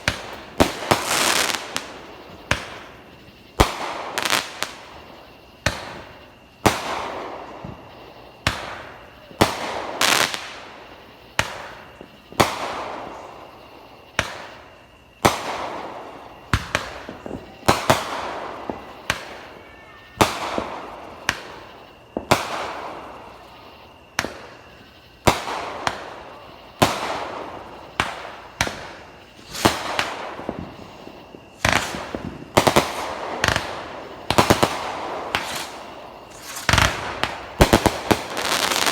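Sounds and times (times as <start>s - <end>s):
fireworks banging: 0.0s - 38.9s.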